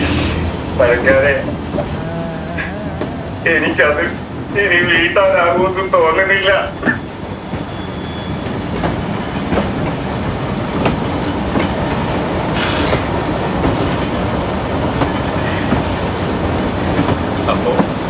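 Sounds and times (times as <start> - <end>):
railway carriage rattling: 0.0 - 18.0
wheels clicking over rail joints: 2.6 - 18.0.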